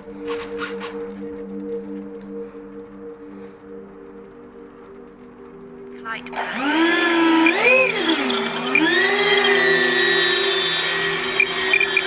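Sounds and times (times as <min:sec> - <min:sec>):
electric ducted fan whine: 0:00.0 - 0:12.0.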